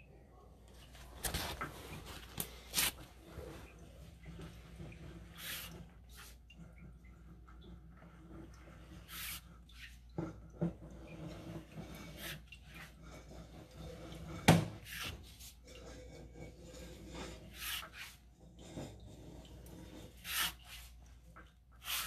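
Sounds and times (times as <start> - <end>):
cable scraping through drain pipe: 0.8 - 22.0.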